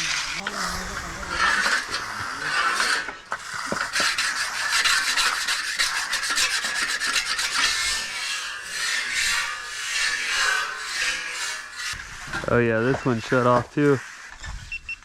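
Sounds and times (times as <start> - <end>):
trowel scraping concrete: 0.0 - 14.6.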